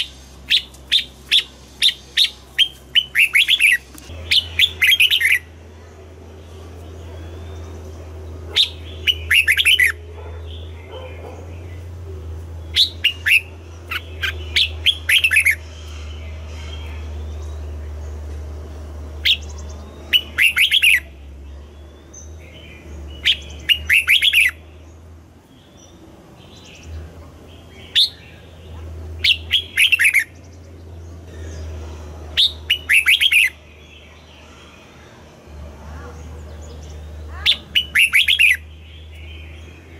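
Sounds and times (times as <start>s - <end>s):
bird singing sharp phrases: 0.0s - 39.9s
steady low hum: 0.0s - 39.9s.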